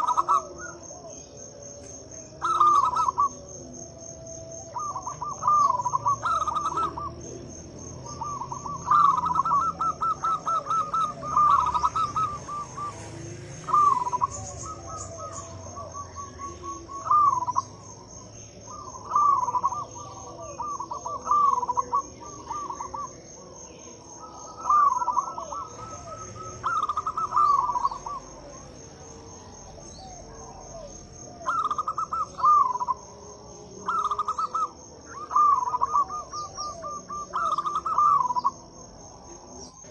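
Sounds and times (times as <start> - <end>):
dove cooing in trilled phrases: 0.0 - 39.9
high insect trill: 0.0 - 39.9.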